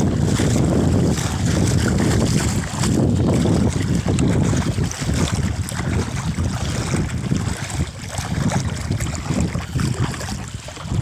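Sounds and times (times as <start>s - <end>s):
seawater sloshing around legs: 0.0s - 11.0s
wind buffeting microphone: 0.0s - 11.0s.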